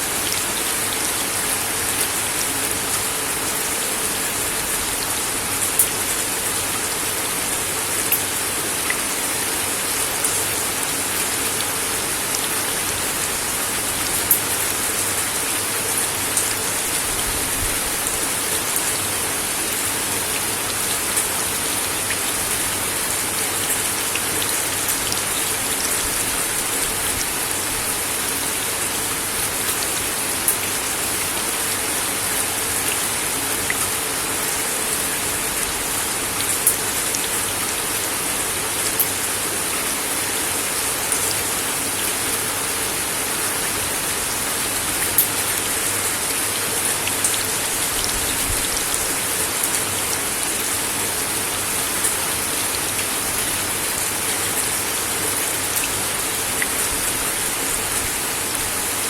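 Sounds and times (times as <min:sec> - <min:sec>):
rain on a wooden deck: 0:00.0 - 0:59.0.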